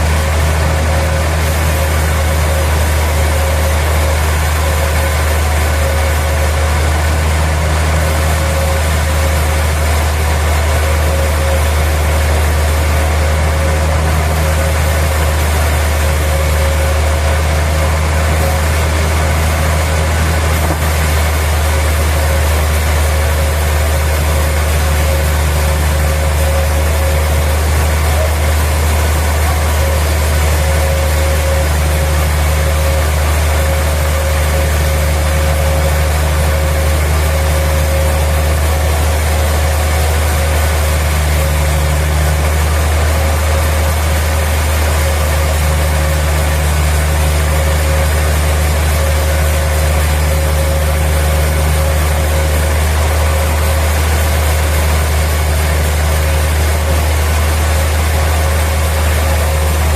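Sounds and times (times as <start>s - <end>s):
deep engine drone: 0.0s - 59.9s
machinery whine: 0.0s - 59.9s.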